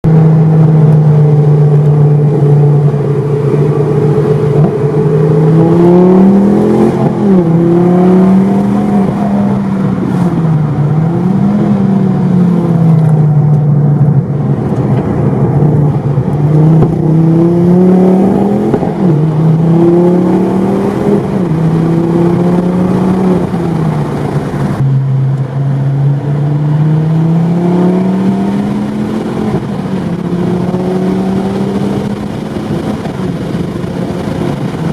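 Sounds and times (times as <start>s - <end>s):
car engine revving loud: 0.1s - 34.9s.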